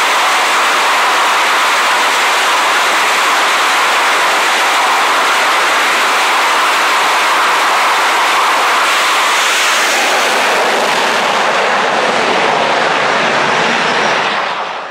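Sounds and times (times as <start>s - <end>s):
jet engines roaring: 0.0s - 14.9s.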